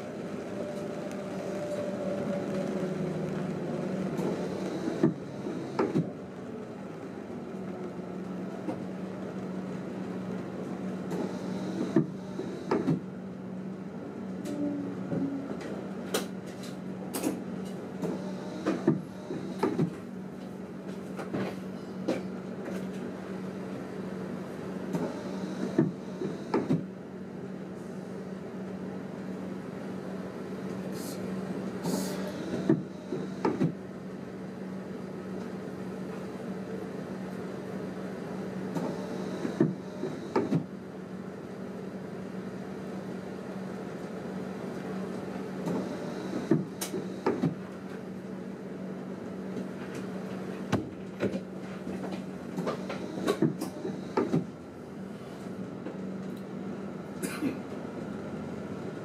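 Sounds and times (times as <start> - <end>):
train cab hum: 0.0 - 59.0.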